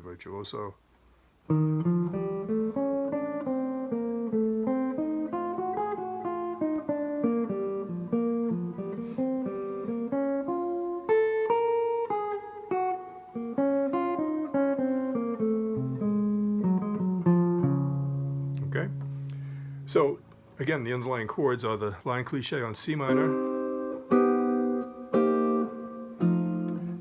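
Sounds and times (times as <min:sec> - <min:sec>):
fast jazz guitar line: 0:01.5 - 0:27.0.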